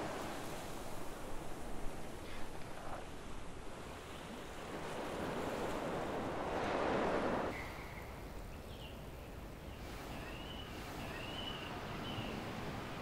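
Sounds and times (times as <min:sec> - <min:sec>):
sea surf washing: 0:00.0 - 0:13.0.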